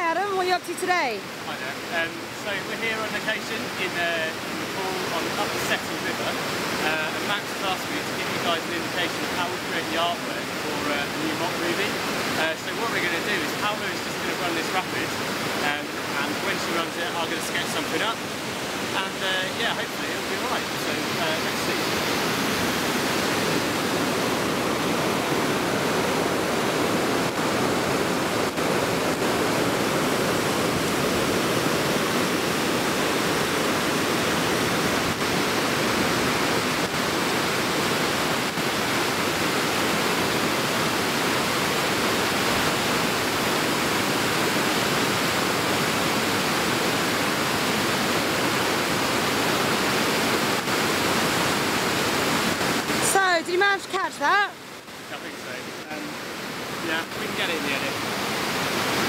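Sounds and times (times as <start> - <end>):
river rapid rushing: 0.0 - 59.0.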